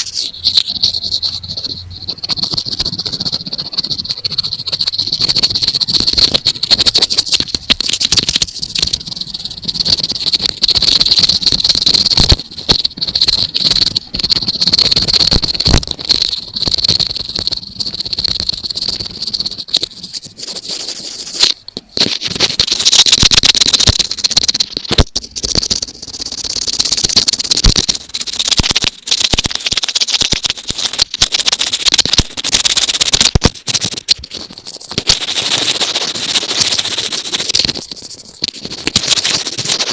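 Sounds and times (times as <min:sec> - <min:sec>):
scratching and tapping on microphone: 0:00.0 - 0:39.9.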